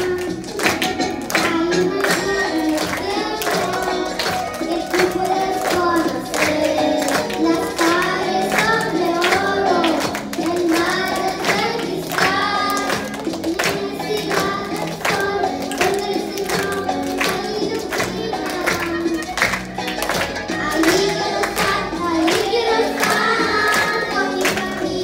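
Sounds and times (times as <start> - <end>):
girl singing into microphone: 0.0 - 19.3, 20.5 - 25.0
backing music with beat: 0.0 - 25.0.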